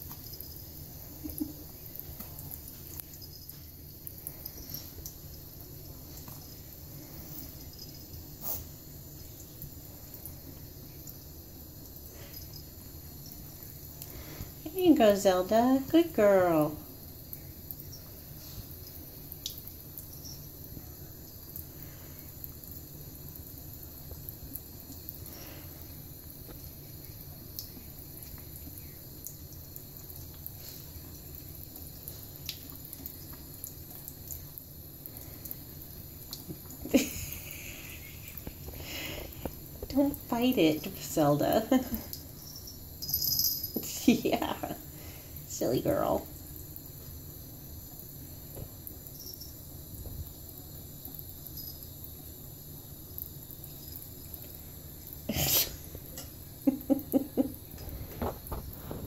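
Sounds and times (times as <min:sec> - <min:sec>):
faint water drips: 0:00.0 - 0:58.1
water trickling from faucet: 0:00.0 - 0:59.0.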